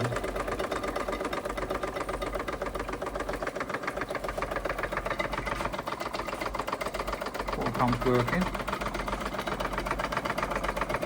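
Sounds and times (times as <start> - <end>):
model steam engine chuffing: 0.0 - 11.0.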